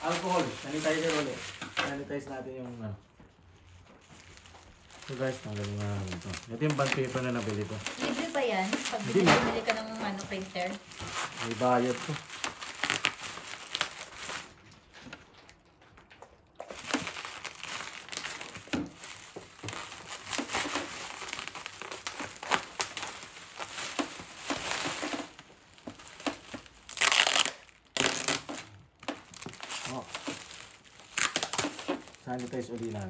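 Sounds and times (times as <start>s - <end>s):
bubble wrap crinkling: 0.0s - 33.0s.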